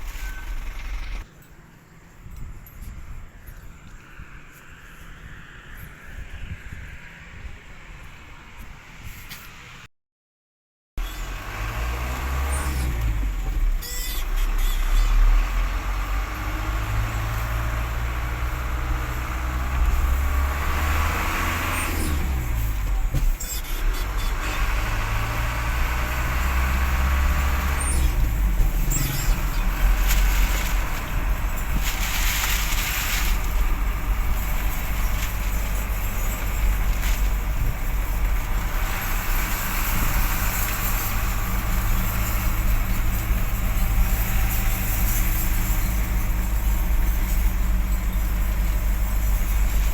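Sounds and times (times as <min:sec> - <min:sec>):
diesel truck engine running: 0:00.0 - 0:01.3, 0:11.0 - 0:49.9.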